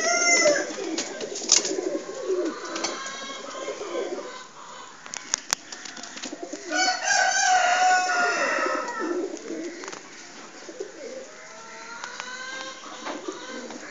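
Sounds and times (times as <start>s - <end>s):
pigeons cooing: 0.0s - 13.9s.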